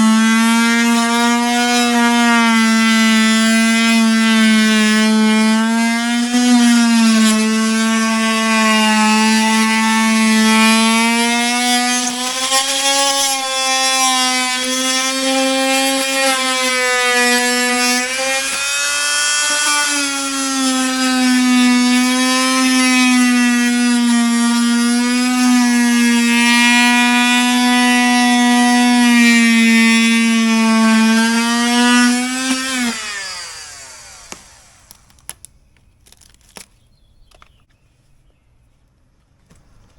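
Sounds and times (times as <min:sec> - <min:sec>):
oscillating multi-tool whining: 0:00.0 - 0:35.4.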